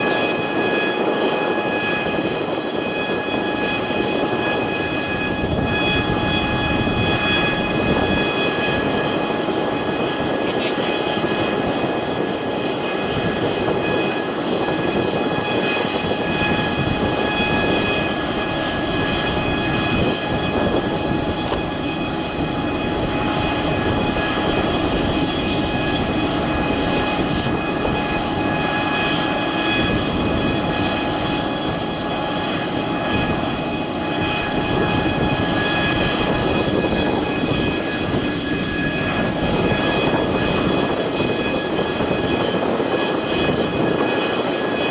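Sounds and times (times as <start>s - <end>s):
aircraft turbines whining: 0.0s - 44.9s.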